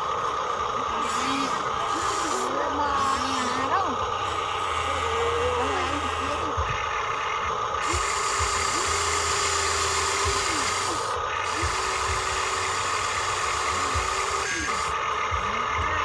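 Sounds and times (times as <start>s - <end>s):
motor spinning up and down: 0.0s - 16.0s
small electric motors whining: 0.0s - 16.0s.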